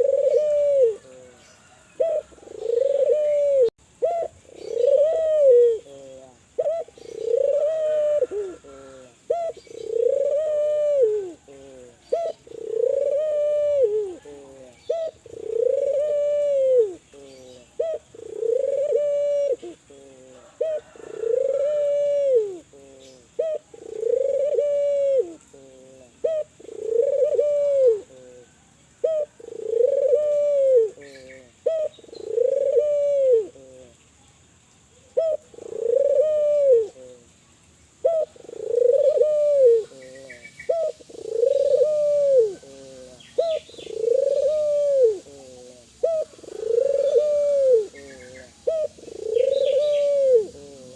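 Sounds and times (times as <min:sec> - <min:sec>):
small birds chirping: 0:00.0 - 0:21.2, 0:22.4 - 0:50.9
dove cooing: 0:00.0 - 0:34.1, 0:35.1 - 0:37.3, 0:38.0 - 0:50.9.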